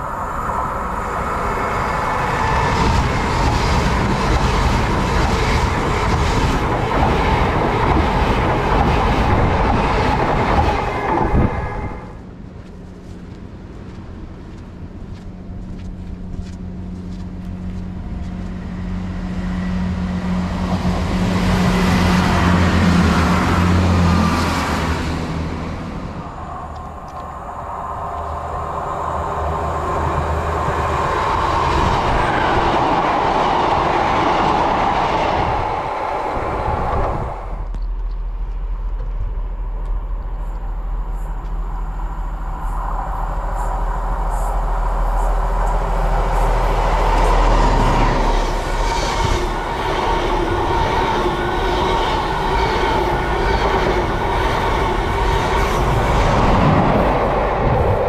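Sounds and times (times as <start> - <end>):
diesel train passing: 0.0 - 58.0.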